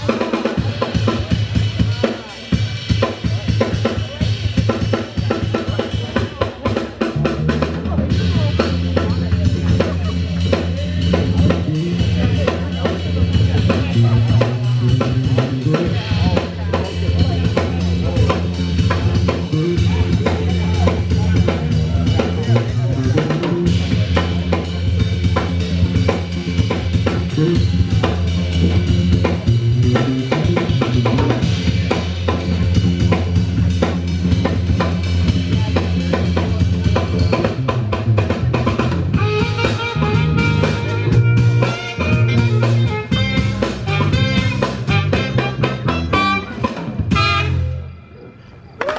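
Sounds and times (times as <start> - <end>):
drum kit playing: 0.0 - 47.8
bass line: 0.0 - 48.2.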